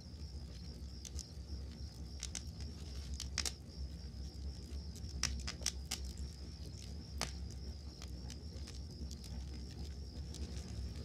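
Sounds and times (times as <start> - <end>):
crickets chirping: 0.0 - 11.0
campfire crackling and popping: 0.1 - 11.0.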